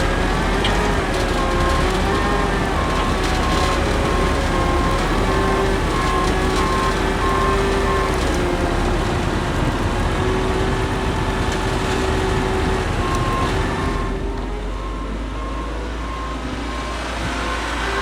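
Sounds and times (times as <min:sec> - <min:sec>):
harvester machine drone: 0:00.0 - 0:18.0.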